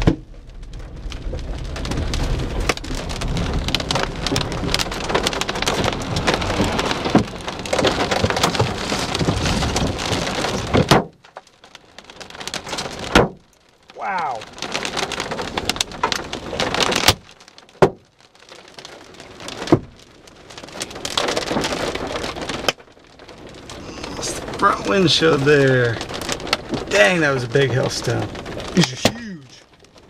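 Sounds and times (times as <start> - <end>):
hailstones pounding a vehicle: 0.0 - 30.0.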